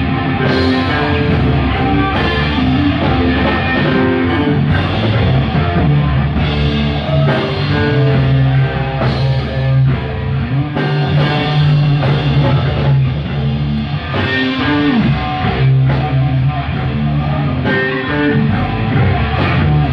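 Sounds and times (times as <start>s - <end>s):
bass guitar: 0.0s - 19.9s
drum kit: 0.0s - 19.9s
electric guitar: 0.0s - 19.9s.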